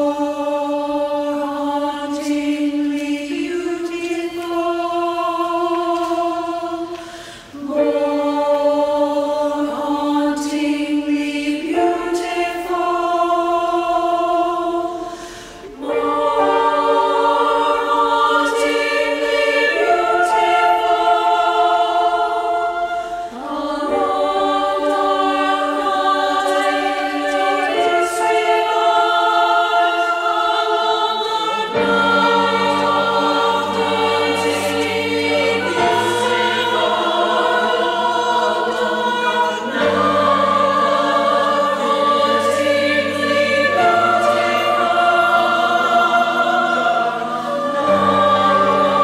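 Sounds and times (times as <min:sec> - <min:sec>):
women's choir singing: 0:00.0 - 0:49.0.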